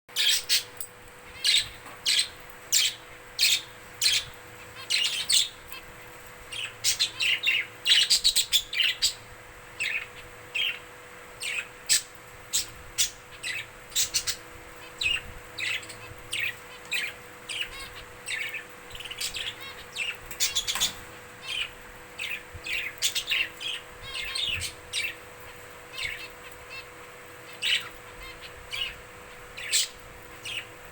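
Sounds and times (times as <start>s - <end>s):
budgerigars chirping: 0.2s - 0.7s, 1.4s - 5.6s, 6.5s - 10.8s, 11.4s - 26.9s, 27.5s - 30.7s.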